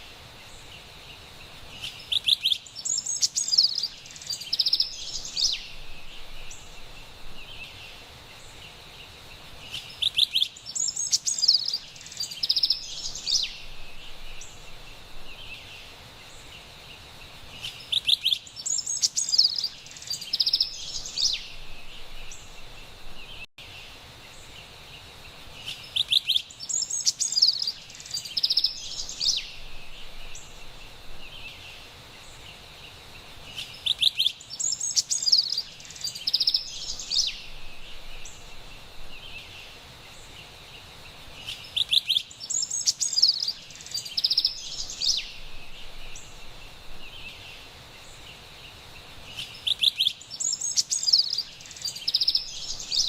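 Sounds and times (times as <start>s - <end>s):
faint background hiss: 0.0s - 53.0s.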